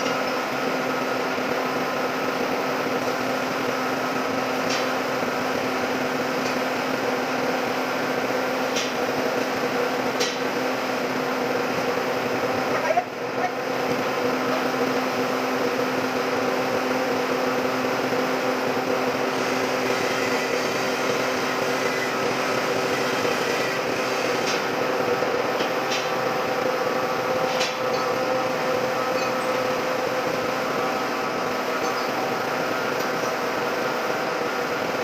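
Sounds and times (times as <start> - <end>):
metalworking machinery humming: 0.0 - 35.0.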